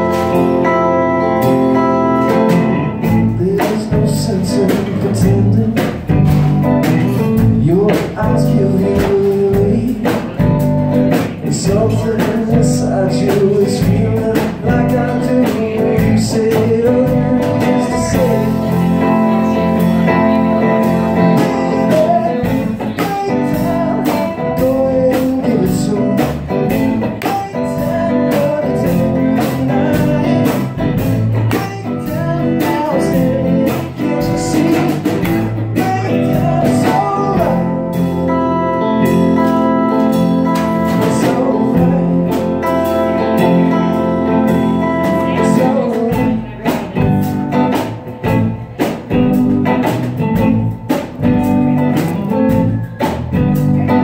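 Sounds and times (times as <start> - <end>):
man singing: 0.0 - 48.6
drum kit beat: 0.0 - 54.0
electric bass: 0.0 - 54.0
electric guitar: 0.0 - 54.0.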